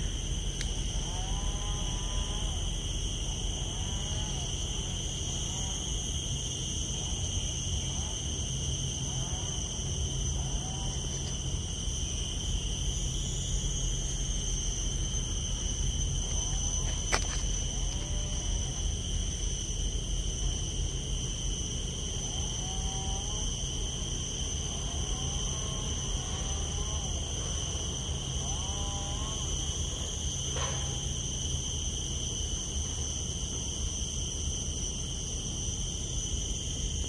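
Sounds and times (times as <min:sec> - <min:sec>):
insect chorus drone: 0:00.0 - 0:37.0.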